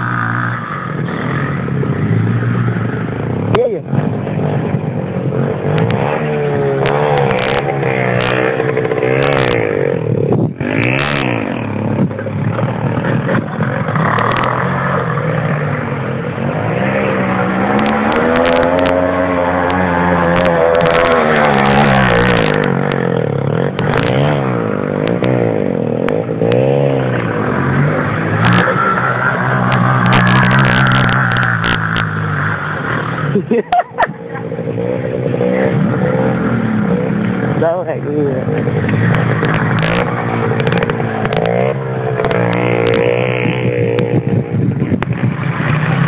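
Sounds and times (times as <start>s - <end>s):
off-road vehicle engine revving: 0.0s - 46.0s.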